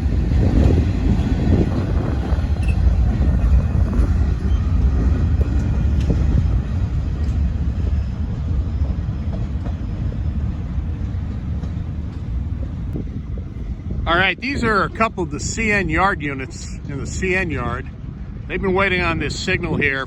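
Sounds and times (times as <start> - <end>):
train cars rumbling on rails: 0.0 - 20.0.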